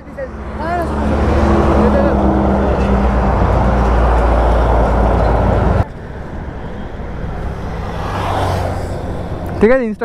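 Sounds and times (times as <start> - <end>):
loud roadside traffic: 0.0 - 10.0
quieter road noise: 0.0 - 10.0.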